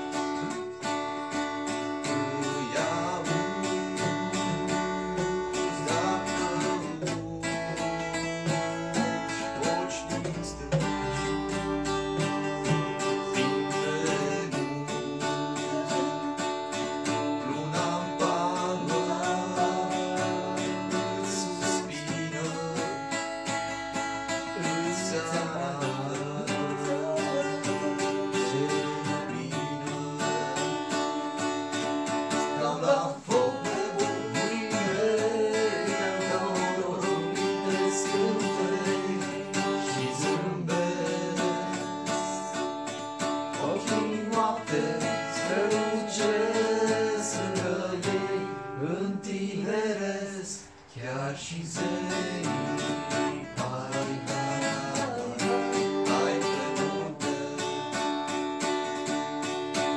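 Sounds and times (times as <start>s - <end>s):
acoustic guitar plucked chords: 0.0s - 59.9s.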